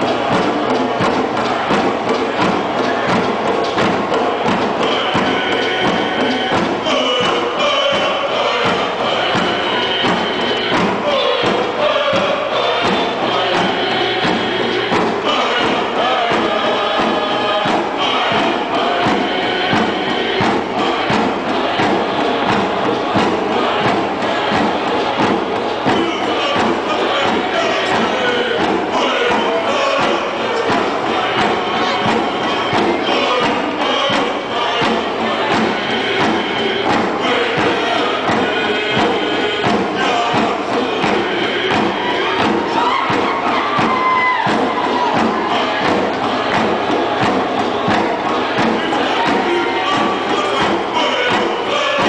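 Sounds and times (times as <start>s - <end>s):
crowd noise: 0.0s - 52.0s
group singing: 0.0s - 52.0s
steady drum beat: 0.0s - 52.0s.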